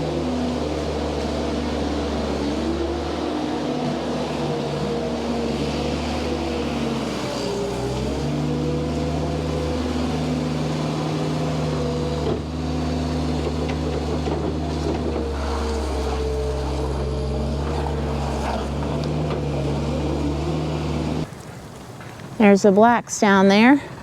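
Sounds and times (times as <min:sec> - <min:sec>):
engine running steadily: 0:00.0 - 0:21.3.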